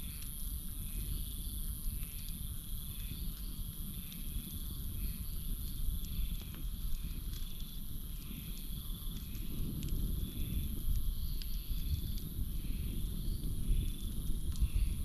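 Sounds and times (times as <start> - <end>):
campfire crackling and popping: 0.0 - 15.0
crickets chirring: 0.0 - 15.0
night insects and frogs: 0.0 - 15.0.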